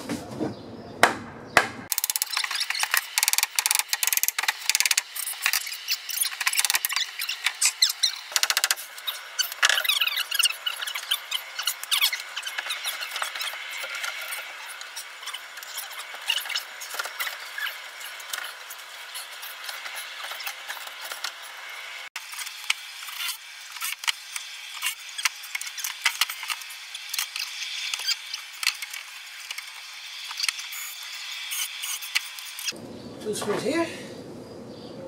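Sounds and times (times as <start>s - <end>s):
sped-up hammering clicks and scraping: 1.0s - 32.8s.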